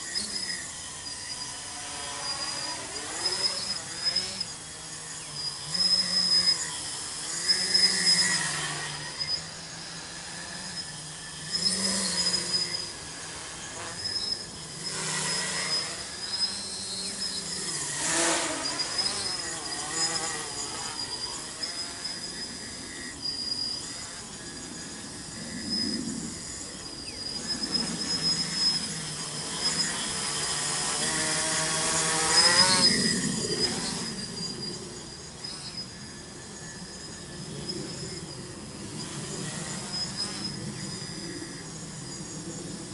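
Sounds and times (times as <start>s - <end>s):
drone motors buzzing: 0.0s - 42.9s.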